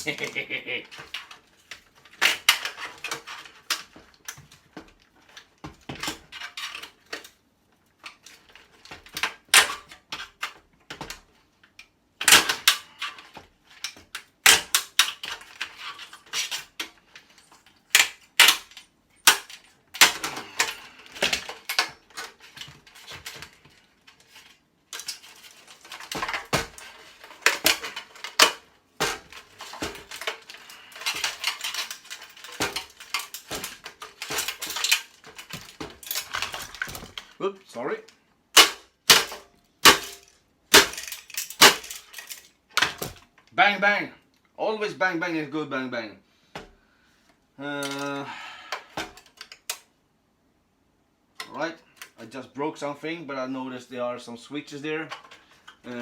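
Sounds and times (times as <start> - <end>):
plastic and metal parts cracking: 0.0 - 37.4, 38.1 - 43.5, 47.6 - 50.0, 55.0 - 56.0.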